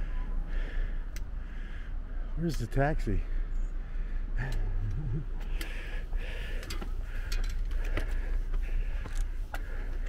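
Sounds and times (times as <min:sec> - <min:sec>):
hard breathing: 0:00.0 - 0:02.1, 0:03.2 - 0:10.0.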